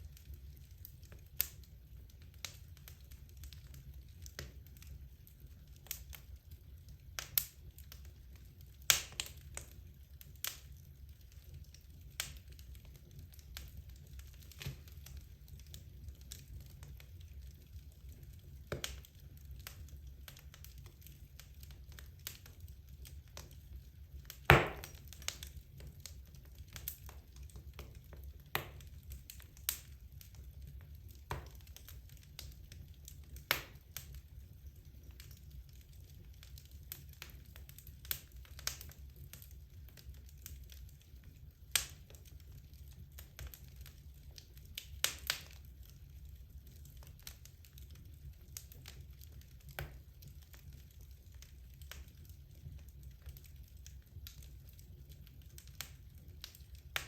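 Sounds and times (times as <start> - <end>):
logs crackling and popping: 0.0 - 57.0
low rumble of fire: 0.0 - 57.0.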